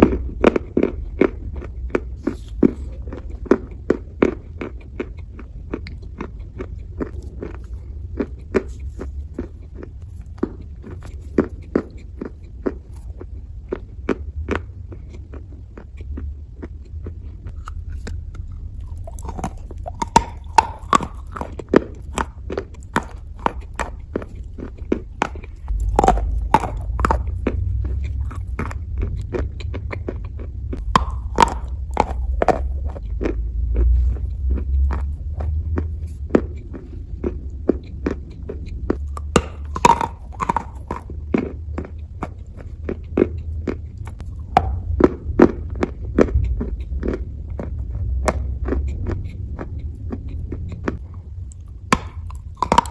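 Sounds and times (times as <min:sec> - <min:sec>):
chewing wet clay: 0:00.0 - 0:52.9
steady low rumble: 0:00.0 - 0:52.9.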